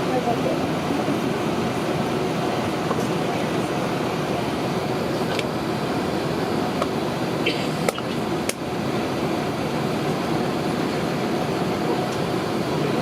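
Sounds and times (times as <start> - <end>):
airliner cabin hum: 0.0 - 13.0.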